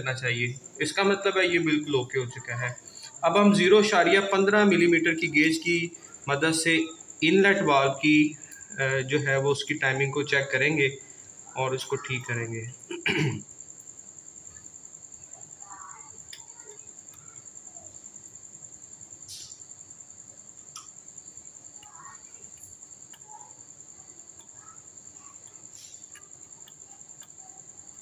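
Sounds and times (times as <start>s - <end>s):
cricket trilling: 0.0s - 28.0s.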